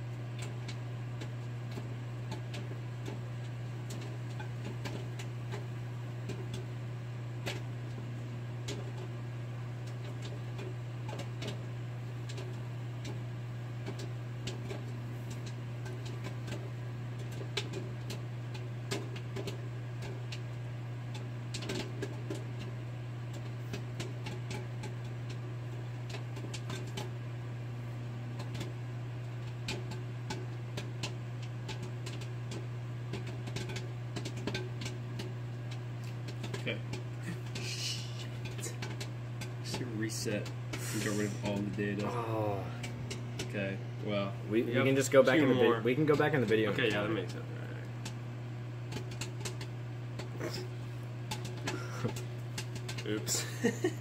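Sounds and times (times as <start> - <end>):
popcorn kernels popping: 0.0 - 43.6, 44.9 - 54.0
microwave oven humming: 0.0 - 54.0.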